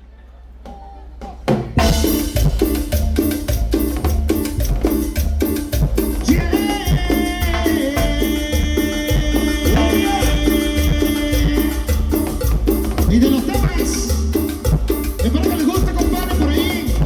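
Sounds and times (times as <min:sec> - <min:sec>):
latin band music: 0:00.7 - 0:17.0.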